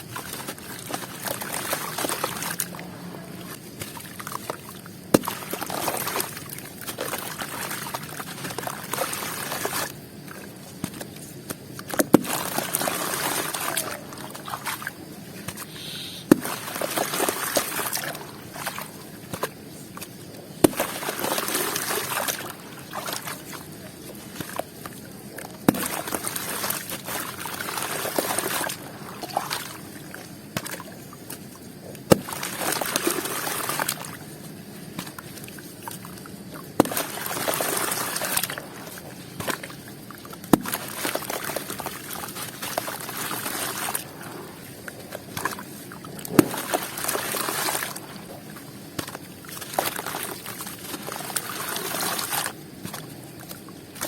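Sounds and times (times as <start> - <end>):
crackling hiss of soaking: 0.0 - 54.0
crunchy pieces dipped in water: 0.0 - 54.0.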